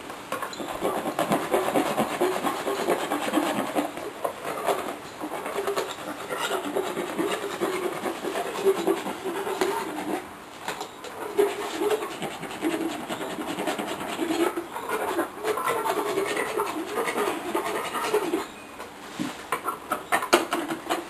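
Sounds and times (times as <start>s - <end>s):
rasp scraping teeth: 0.6s - 10.2s, 11.2s - 18.5s.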